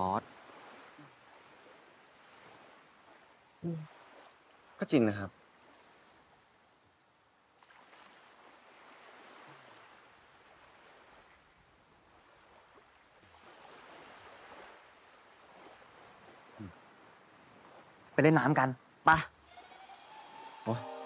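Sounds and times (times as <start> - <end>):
faint sea surf: 0.0 - 21.0.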